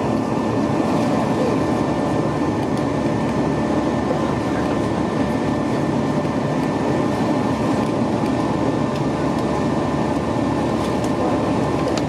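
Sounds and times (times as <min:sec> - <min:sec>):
airplane cabin engine and airflow noise: 0:00.0 - 0:12.0.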